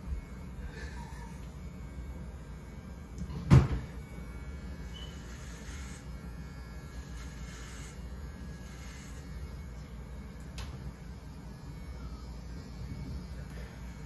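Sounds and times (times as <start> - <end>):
electric hair clippers humming: 0.0 - 14.0.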